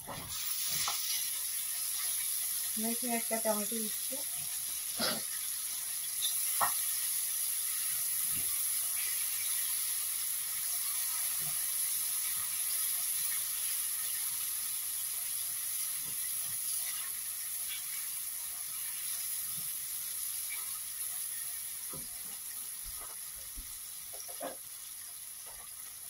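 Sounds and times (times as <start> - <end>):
sauce sizzling in a pan: 0.0 - 26.0.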